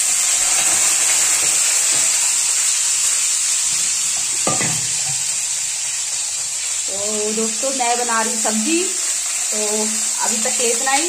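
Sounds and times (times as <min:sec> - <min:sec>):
peas sizzling in hot oil: 0:00.0 - 0:11.0.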